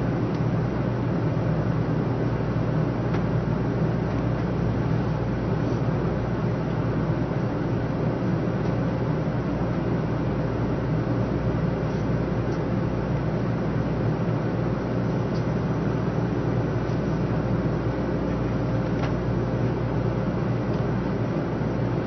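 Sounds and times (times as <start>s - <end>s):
train cabin rumble and hum: 0.0s - 22.0s.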